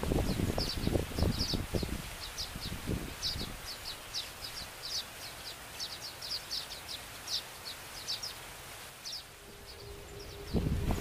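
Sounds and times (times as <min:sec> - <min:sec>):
birds chirping: 0:00.0 - 0:11.0
steady hiss: 0:00.0 - 0:11.0.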